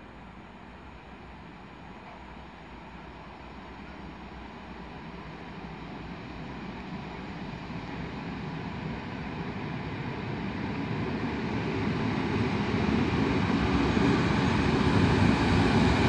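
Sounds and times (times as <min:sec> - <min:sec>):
electric train running on rails: 0:00.0 - 0:16.0.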